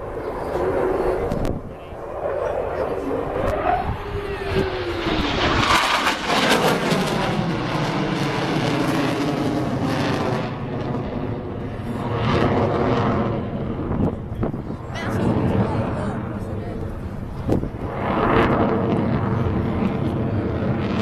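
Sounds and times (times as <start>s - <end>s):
loud jet noise: 0.0s - 21.0s.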